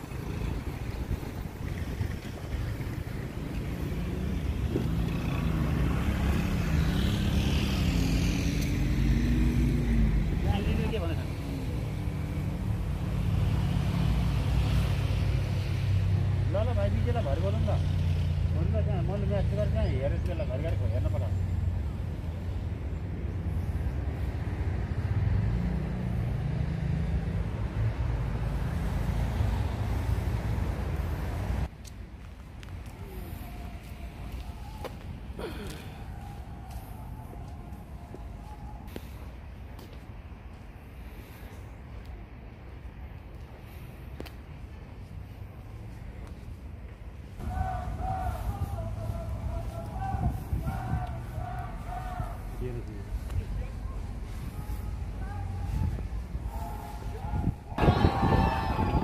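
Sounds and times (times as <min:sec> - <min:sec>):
low traffic rumble: 0:00.0 - 0:59.0
vehicle engine on road: 0:00.0 - 0:59.0.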